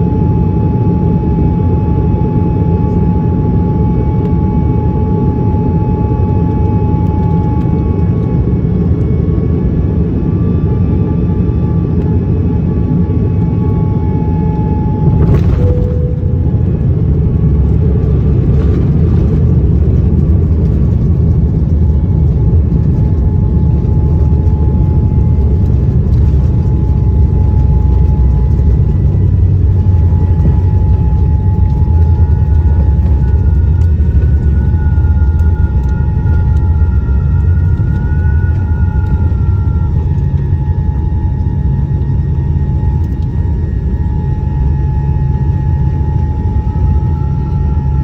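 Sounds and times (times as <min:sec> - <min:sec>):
aircraft cabin rumble: 0:00.0 - 0:48.0.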